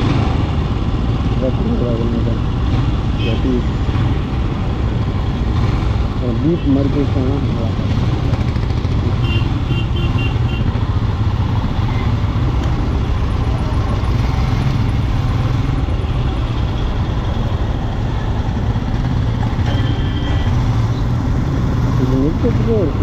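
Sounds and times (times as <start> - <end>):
motorcycle engine rumble: 0.0 - 23.0
traffic noise: 0.0 - 23.0.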